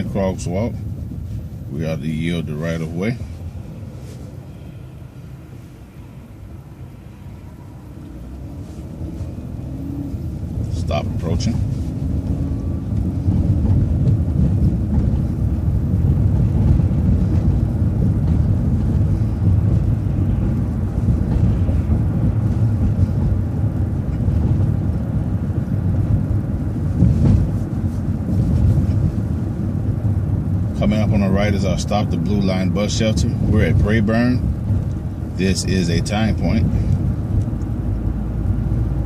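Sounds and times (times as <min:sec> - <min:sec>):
road noise: 0:00.0 - 0:39.0
vehicle engine rumble: 0:00.0 - 0:39.0.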